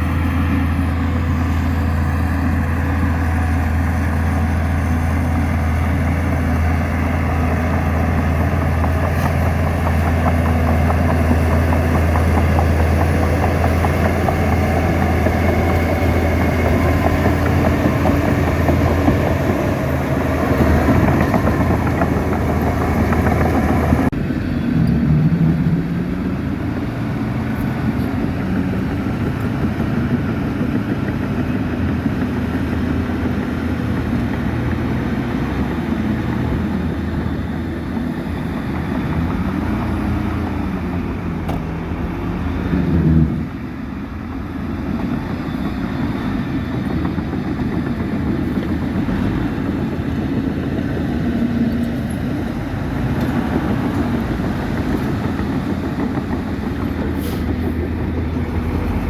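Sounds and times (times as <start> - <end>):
heavy diesel machinery engine drone: 0.0 - 59.0.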